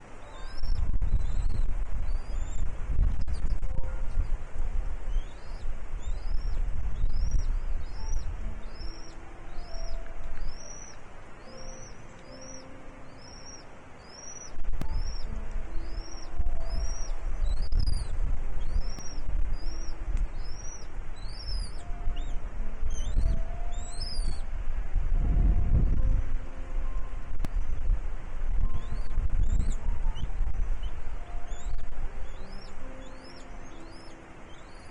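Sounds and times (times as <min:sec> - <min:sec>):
bird chirping: 0:00.0 - 0:04.4, 0:05.1 - 0:24.5, 0:28.5 - 0:34.9
wind rumbling on microphone: 0:00.0 - 0:34.9.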